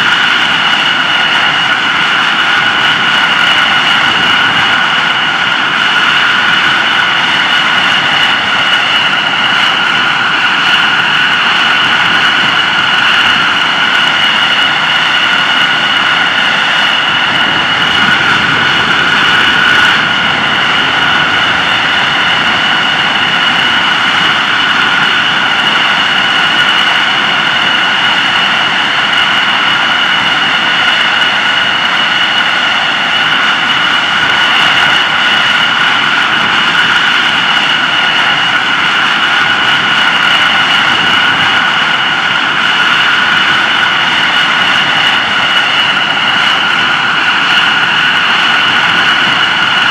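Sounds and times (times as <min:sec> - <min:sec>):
jet engine idling whine: 0:00.0 - 0:49.9.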